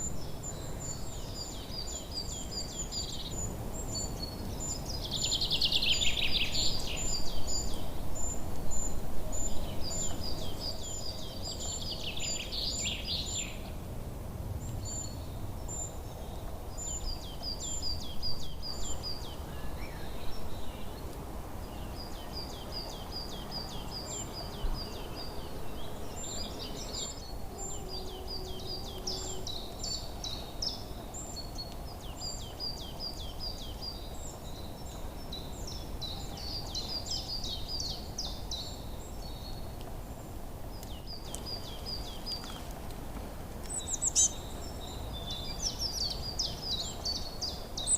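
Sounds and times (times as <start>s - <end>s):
small birds chirping: 0.0s - 13.8s, 14.6s - 47.9s.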